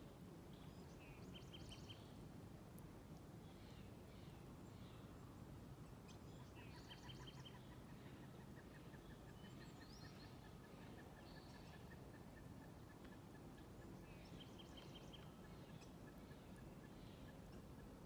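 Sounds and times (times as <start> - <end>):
faint birdsong: 0.0 - 2.2, 3.1 - 18.0
steady low background noise: 0.0 - 18.0.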